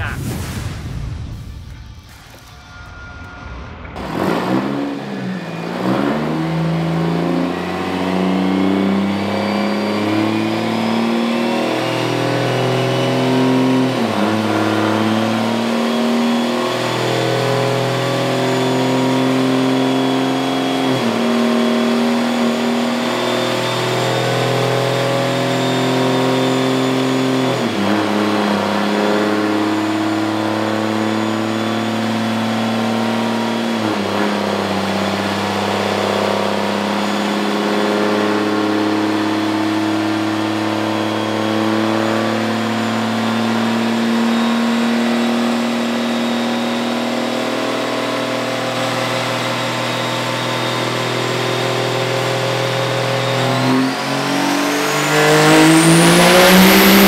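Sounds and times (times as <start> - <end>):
diesel engine running hard: 3.3 - 57.0.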